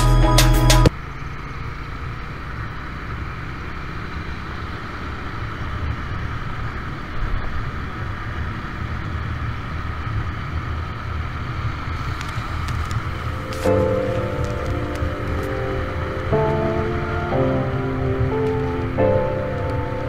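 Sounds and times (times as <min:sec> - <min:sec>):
engine and tyre rumble: 0:00.9 - 0:20.0
road hiss: 0:00.9 - 0:20.0.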